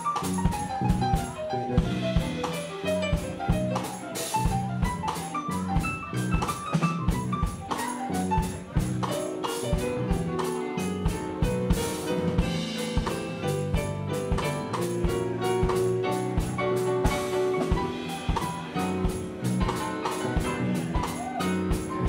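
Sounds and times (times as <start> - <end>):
bass guitar line: 0.0 - 22.0
drum kit rapid hits: 0.0 - 22.0
short piano notes: 0.0 - 22.0.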